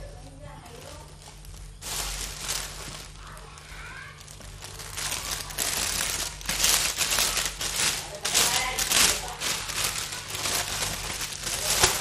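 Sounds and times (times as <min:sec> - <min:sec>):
plastic bag and balloons crinkling: 0:00.0 - 0:12.0.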